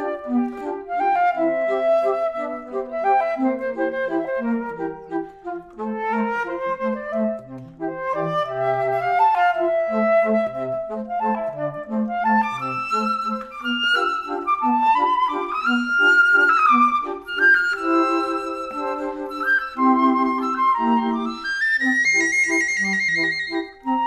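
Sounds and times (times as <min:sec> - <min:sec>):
instrumental background music: 0:00.0 - 0:24.0.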